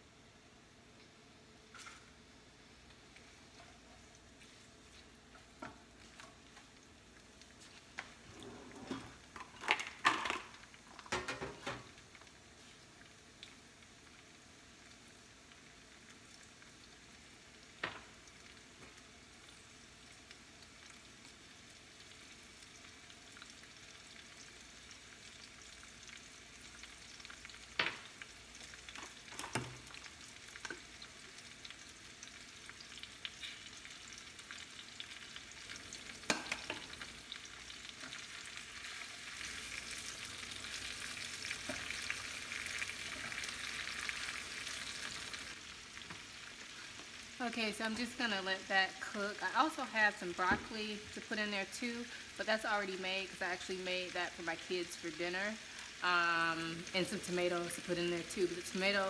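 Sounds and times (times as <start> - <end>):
vegetables sizzling in oil: 0.8 - 59.0.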